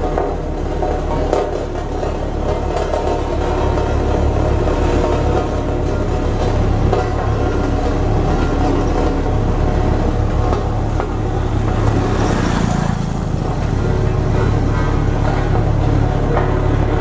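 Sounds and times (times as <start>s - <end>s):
diesel engine pulsing: 0.0s - 17.0s.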